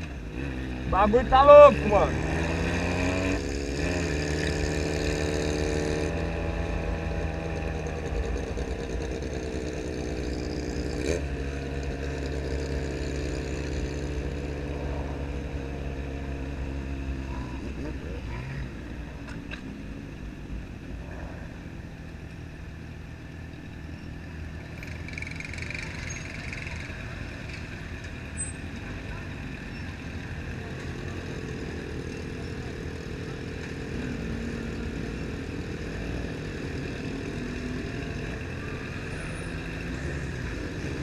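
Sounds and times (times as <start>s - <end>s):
motorcycle engine at low revs: 0.0s - 41.0s.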